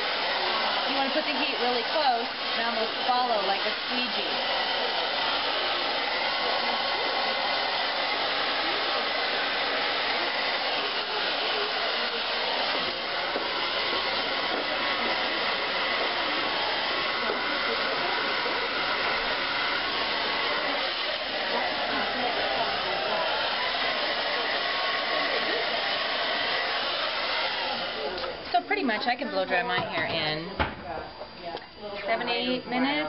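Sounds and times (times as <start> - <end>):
hair dryer blowing: 0.0 - 29.8.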